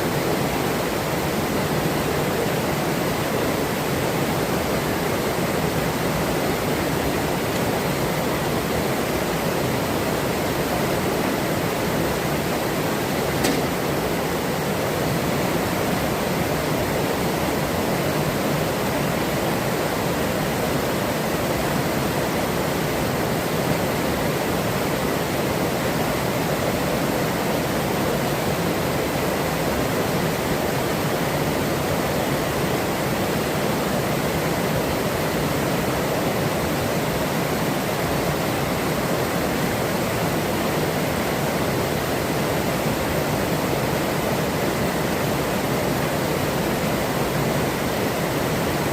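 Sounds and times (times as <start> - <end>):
river water rushing over rocks: 0.0 - 48.9.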